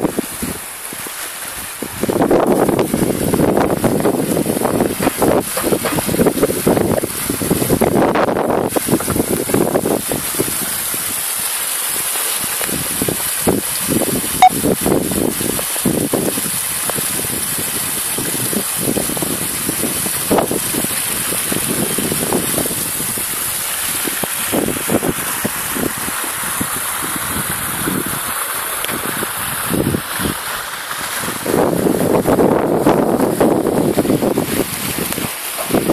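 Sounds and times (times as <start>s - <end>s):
wind buffeting microphone: 0.0s - 11.3s, 12.4s - 35.9s
waterfall splashing into pond: 0.0s - 35.9s.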